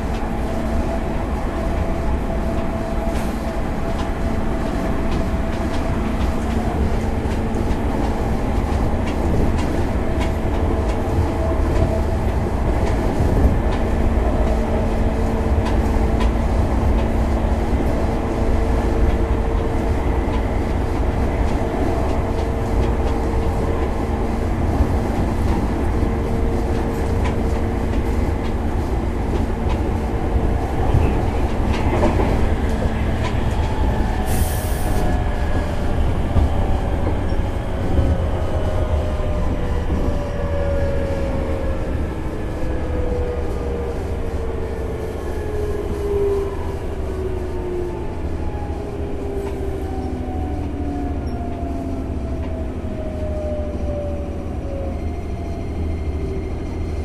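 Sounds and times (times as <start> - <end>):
rail joint clicks: 0.0 - 44.8, 49.1 - 52.9
train wheels rumbling on rails: 0.0 - 57.0.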